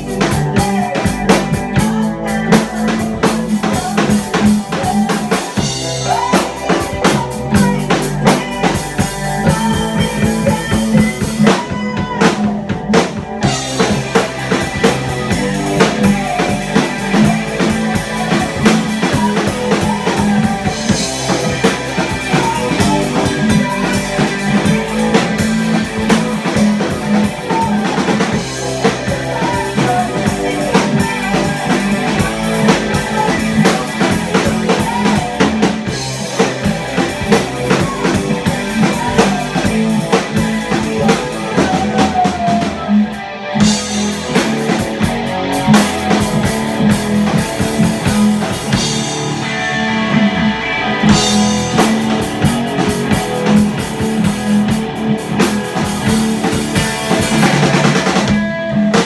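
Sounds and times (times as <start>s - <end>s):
bass guitar: 0.0s - 59.0s
electric guitar: 0.0s - 59.0s
rock band playing live: 0.0s - 59.0s.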